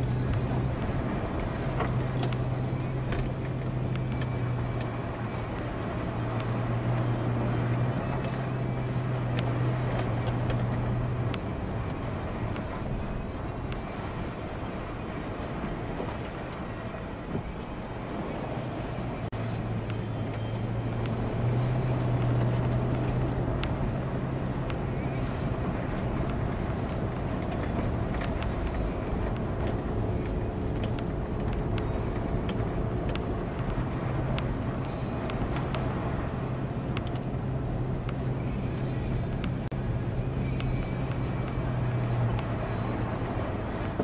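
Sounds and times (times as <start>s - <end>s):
car engine running: 0.0s - 44.0s
tyres on muddy dirt road: 0.0s - 44.0s.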